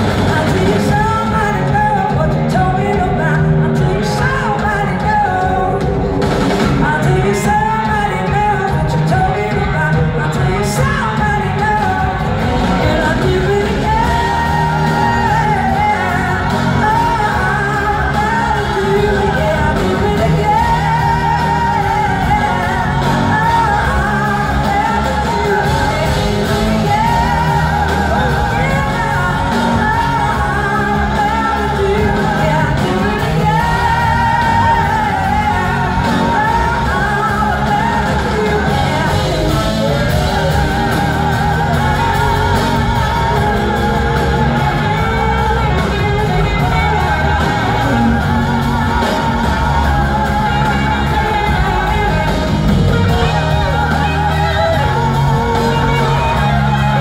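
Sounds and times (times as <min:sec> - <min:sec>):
live blues-rock band: 0:00.0 - 0:57.0
person singing: 0:00.0 - 0:57.0.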